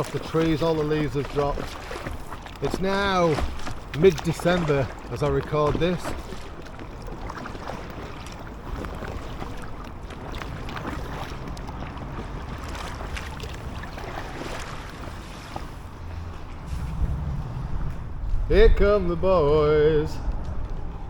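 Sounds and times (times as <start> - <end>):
waves lapping against kayak: 0.0 - 19.8.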